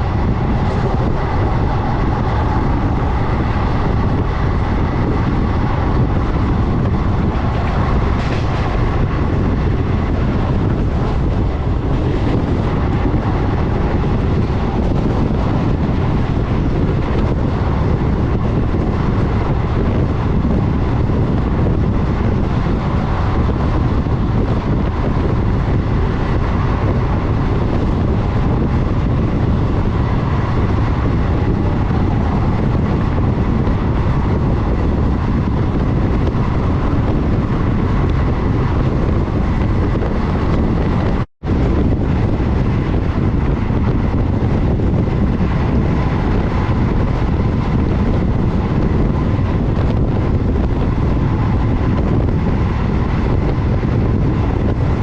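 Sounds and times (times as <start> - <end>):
train rumbling at speed: 0.0 - 55.0
wind buffeting microphone: 0.0 - 55.0.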